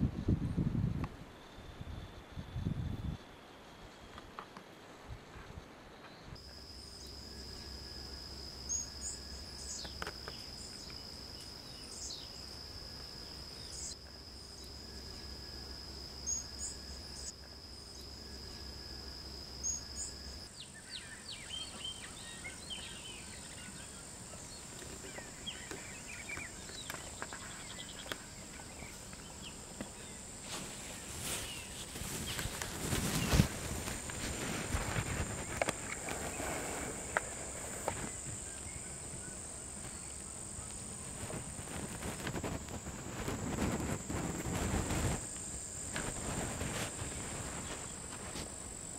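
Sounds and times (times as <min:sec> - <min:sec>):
high-pitched insect drone: 0:06.4 - 0:48.9.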